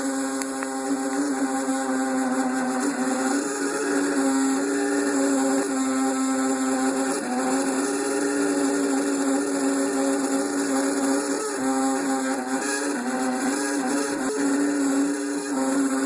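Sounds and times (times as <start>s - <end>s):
freezer humming drone: 0.0s - 16.0s.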